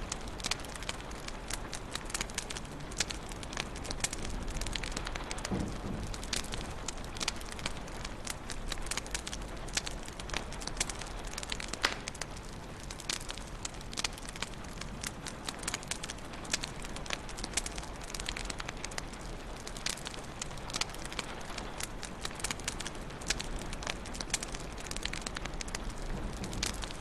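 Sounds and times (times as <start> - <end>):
low rumble of burning: 0.0 - 27.0
wood fire crackling: 0.0 - 27.0.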